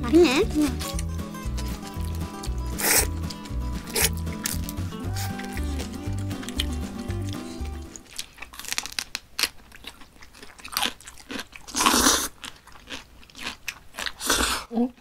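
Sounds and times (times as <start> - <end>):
crunchy bites and chewing: 0.8 - 5.8, 7.3 - 14.7.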